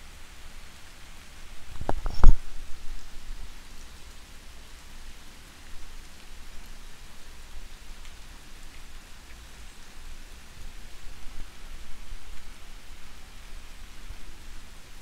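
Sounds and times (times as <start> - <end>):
soft rain hiss: 0.0 - 15.0.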